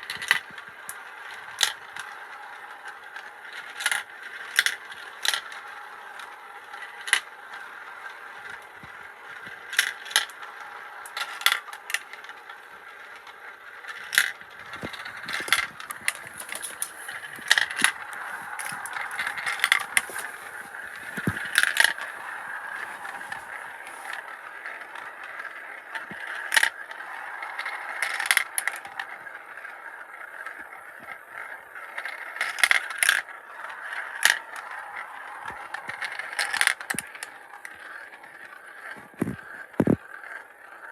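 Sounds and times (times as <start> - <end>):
marbles clicking against track: 0.0 - 40.9
marbles rolling on plastic track: 0.0 - 40.9.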